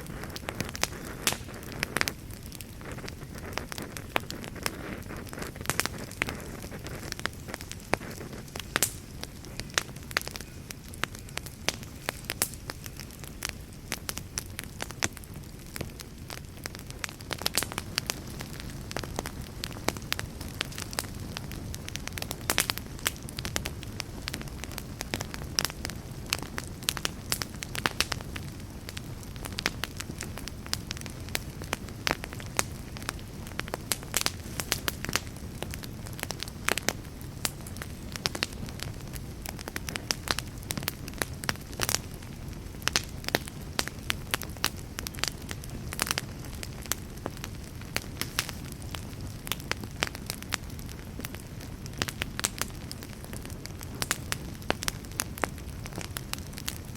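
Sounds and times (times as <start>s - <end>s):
fire rumbling: 0.0s - 56.9s
logs crackling and popping: 0.0s - 56.9s.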